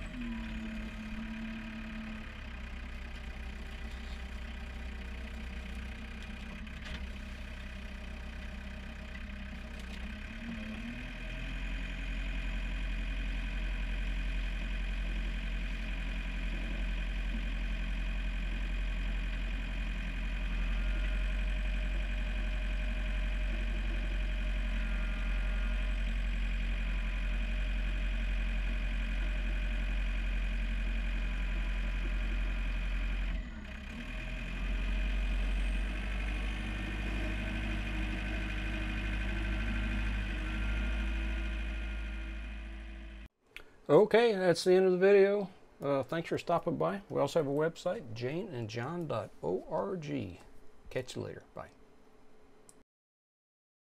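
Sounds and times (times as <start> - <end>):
tractor diesel engine running: 0.0 - 43.3.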